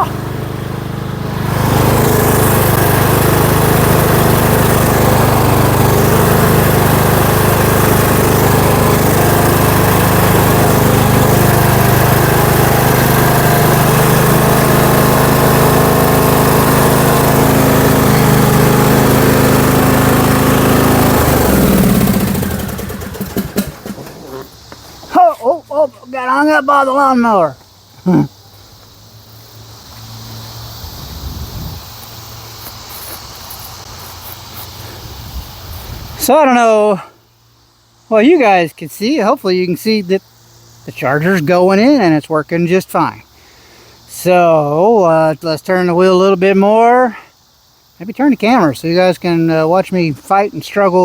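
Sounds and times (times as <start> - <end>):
riding lawn mower engine: 0.0 - 51.0.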